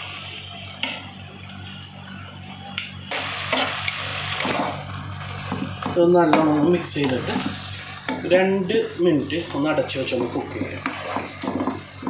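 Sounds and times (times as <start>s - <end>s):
food sizzling in a pan: 1.8s - 12.0s.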